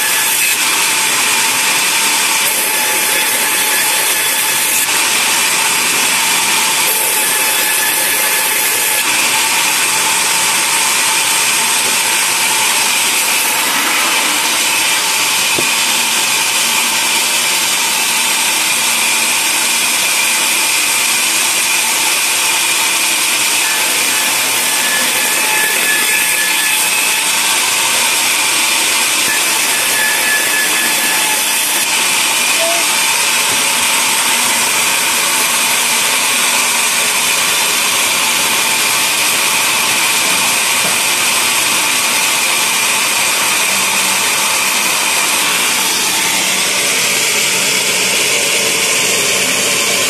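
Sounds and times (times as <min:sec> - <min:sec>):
band saw cutting log: 0:00.0 - 0:50.0.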